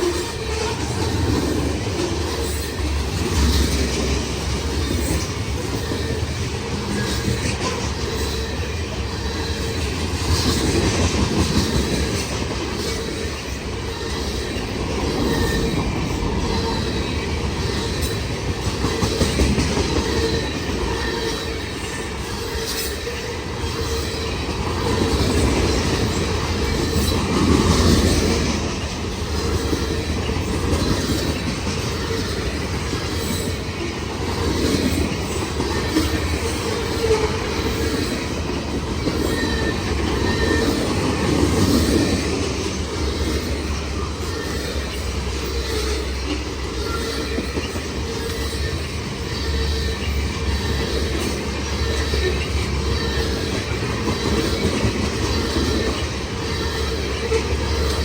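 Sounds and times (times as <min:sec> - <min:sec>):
freight train rumbling past: 0:00.0 - 0:58.0
faint high wheel squeal: 0:04.6 - 0:10.6, 0:11.5 - 0:58.0.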